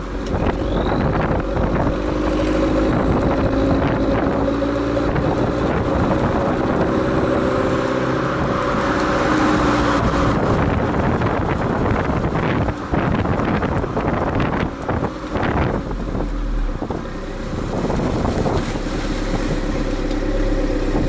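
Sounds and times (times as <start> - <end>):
car exhaust note: 0.0 - 21.0
wind on microphone: 0.0 - 21.0.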